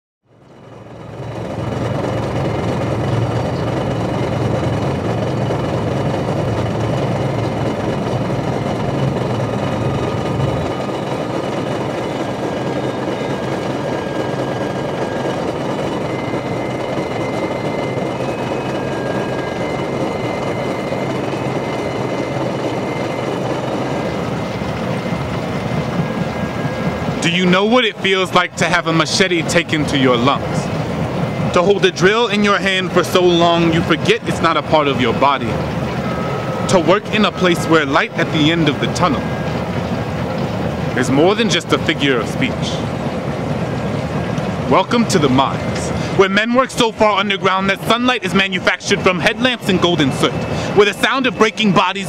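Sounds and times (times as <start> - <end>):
low mechanical rumble: 0.3 - 52.0.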